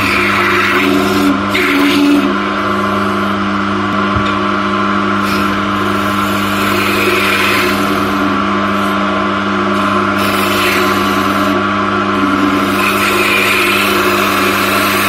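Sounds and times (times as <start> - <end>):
turning tool scraping wood: 0.0 - 3.4, 5.1 - 15.0
wood lathe motor hum: 0.0 - 15.0.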